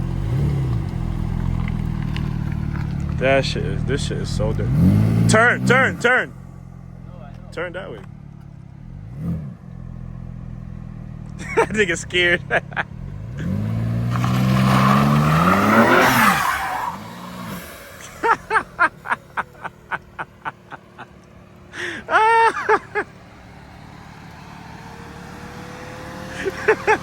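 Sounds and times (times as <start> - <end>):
tyres spinning: 0.0 - 25.0
car engine revving: 0.0 - 27.0.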